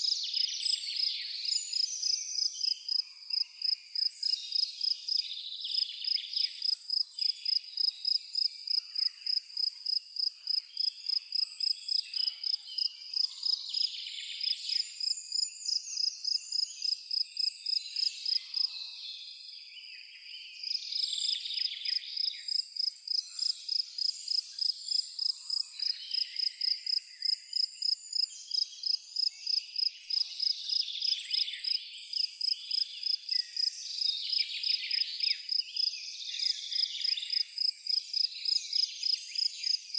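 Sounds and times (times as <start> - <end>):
cricket chirping: 0.0 - 18.7, 20.6 - 39.9
birds singing and calling: 0.0 - 39.9.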